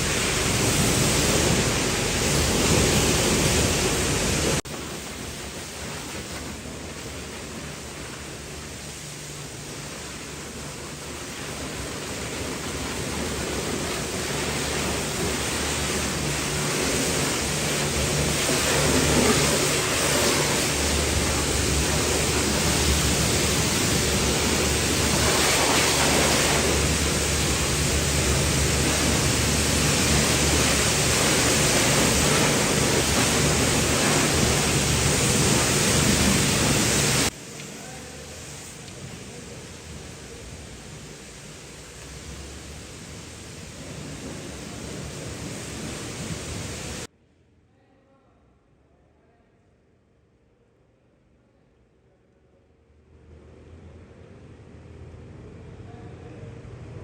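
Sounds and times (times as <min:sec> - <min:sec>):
pressure washer spraying: 0:00.0 - 0:47.1.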